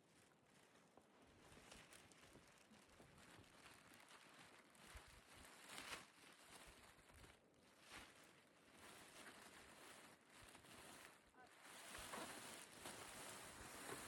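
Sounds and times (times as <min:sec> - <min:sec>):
faint rustling: 0:00.1 - 0:14.0.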